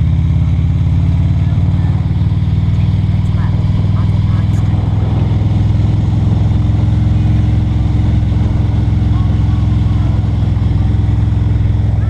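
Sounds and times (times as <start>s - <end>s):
road and wind noise: 0.0s - 12.0s
vehicle engine droning: 0.0s - 12.0s.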